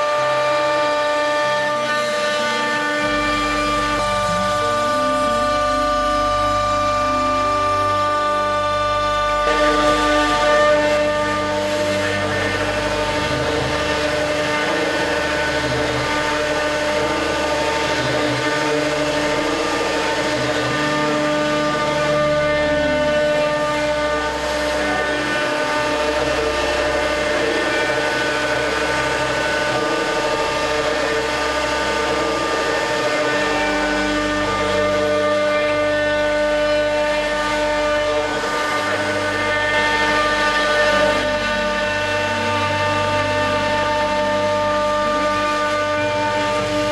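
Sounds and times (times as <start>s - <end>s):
low machine hum shifting pitch: 0.0s - 46.9s
router spindle carving wood: 0.0s - 46.9s
steady whining tones: 0.0s - 46.9s.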